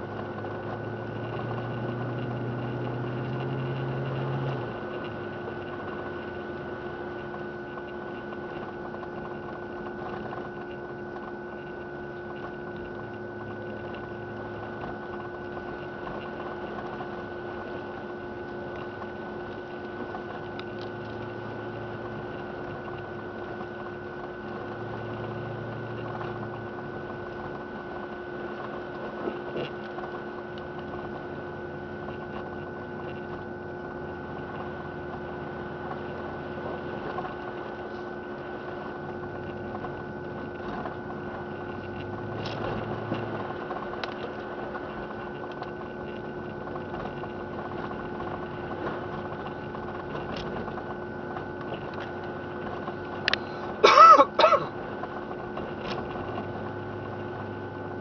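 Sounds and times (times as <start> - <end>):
engine hum: 0.0 - 58.0
thin whine: 0.0 - 58.0.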